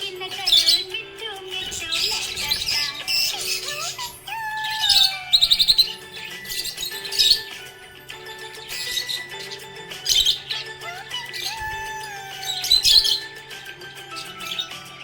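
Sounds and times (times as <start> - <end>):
background music: 0.0 - 15.0
budgerigar chirping: 0.0 - 15.0.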